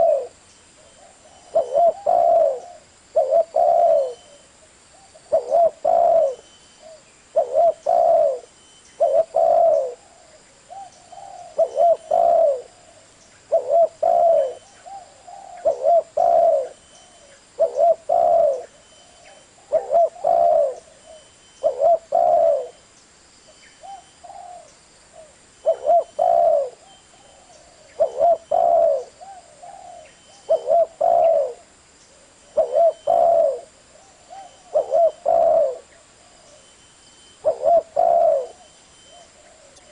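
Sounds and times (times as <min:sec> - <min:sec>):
dove cooing: 0:00.0 - 0:22.8, 0:23.8 - 0:36.7, 0:37.3 - 0:39.9.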